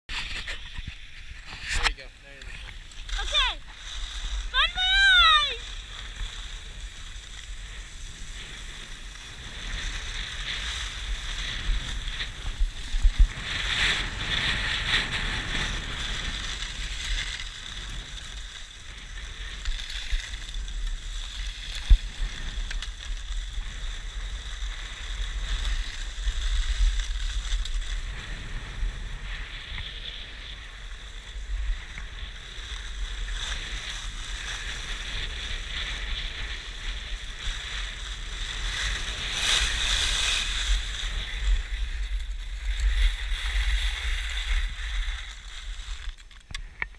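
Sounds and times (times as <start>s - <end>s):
skis scraping over snow: 0.1s - 46.8s
wind on microphone: 0.1s - 46.9s.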